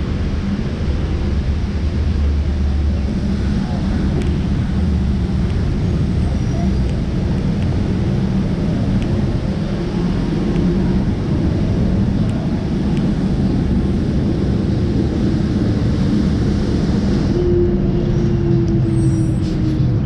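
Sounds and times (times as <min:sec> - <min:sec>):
motor traffic rumble: 0:00.0 - 0:20.0.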